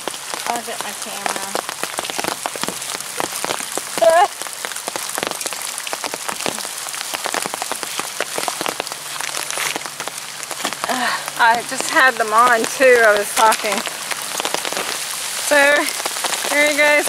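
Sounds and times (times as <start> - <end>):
rain on pond and umbrella: 0.0 - 17.0.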